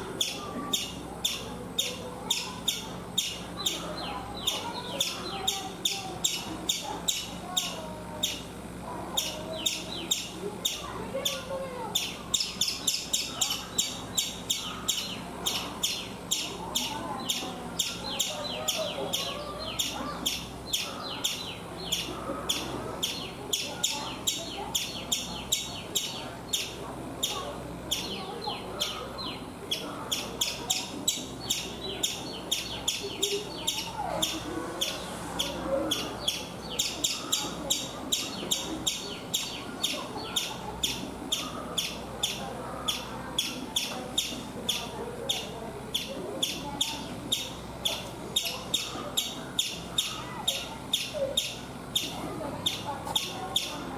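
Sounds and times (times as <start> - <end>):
squirrel chirping: 0.2 - 53.9.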